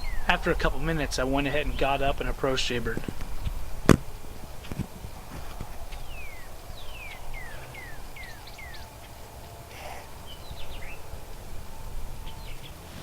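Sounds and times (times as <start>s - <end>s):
low outdoor rumble: 0.0s - 13.0s
songbird calling: 0.0s - 13.0s.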